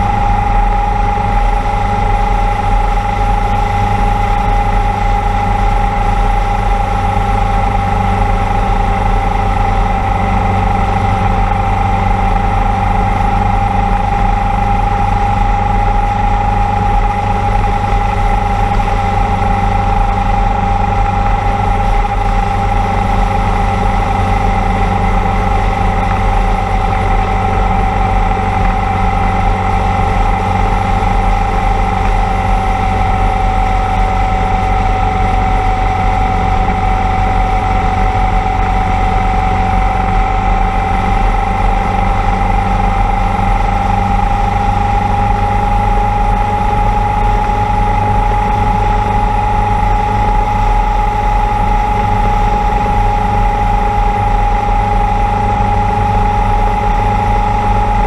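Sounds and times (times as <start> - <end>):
motorcycle engine whining: 0.0 - 58.0.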